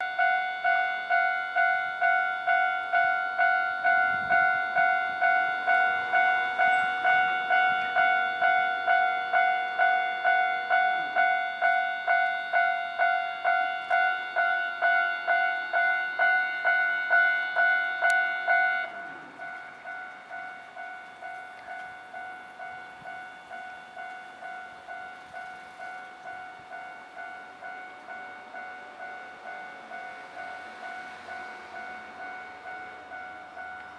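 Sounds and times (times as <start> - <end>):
level crossing warning bell: 0.0 - 33.9.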